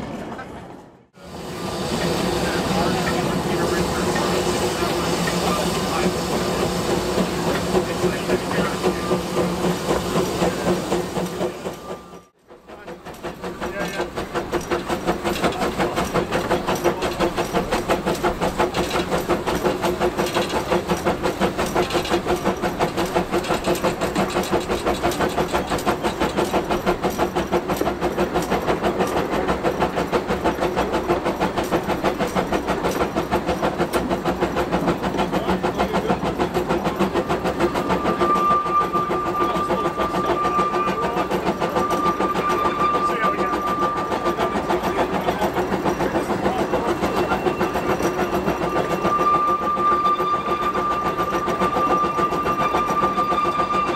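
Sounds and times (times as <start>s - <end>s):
steam locomotive exhaust beats: 1.2s - 53.9s.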